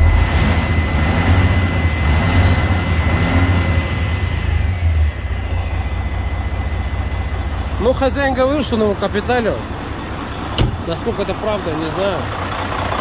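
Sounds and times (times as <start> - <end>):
turbocharger spooling: 0.0 - 10.6
diesel truck engine revving: 0.0 - 13.0.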